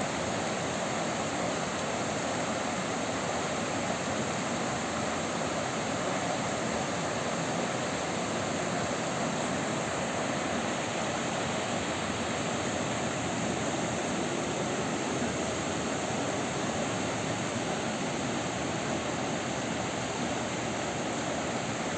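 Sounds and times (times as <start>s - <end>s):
river rushing over rapids: 0.0s - 21.9s.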